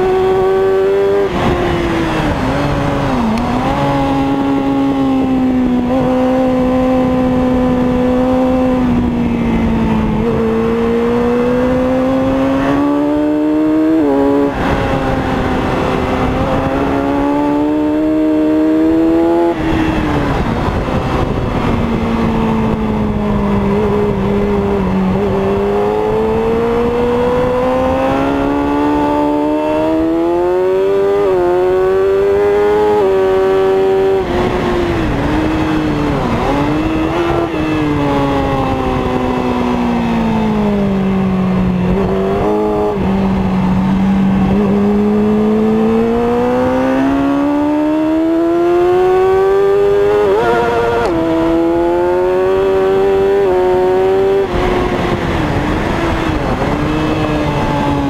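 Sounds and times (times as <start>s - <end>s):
motorbike engine revving: 0.0s - 58.0s
wind rush: 0.0s - 58.0s.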